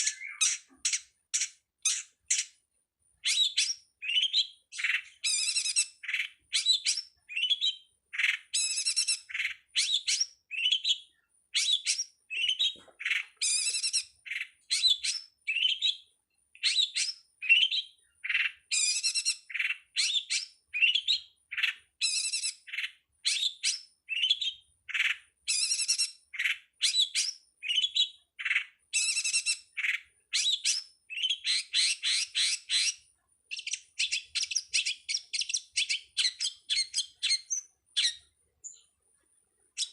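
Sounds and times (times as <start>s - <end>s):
bird song chattering and whistling: 0.0s - 39.0s.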